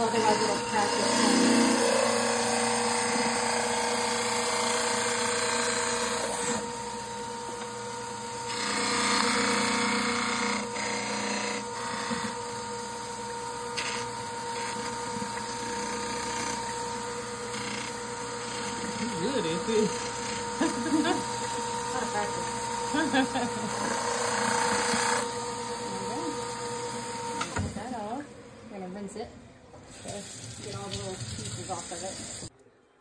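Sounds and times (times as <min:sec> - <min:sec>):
grinding wheel on stone: 0:00.0 - 0:07.7, 0:08.4 - 0:28.2
motor hum: 0:00.0 - 0:32.5.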